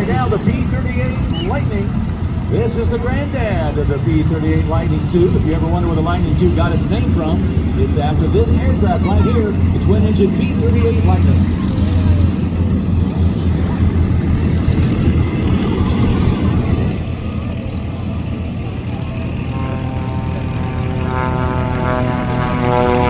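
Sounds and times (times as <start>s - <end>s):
plane engine rising in pitch: 0.0s - 23.0s
propeller aircraft engines rumbling: 0.0s - 23.0s.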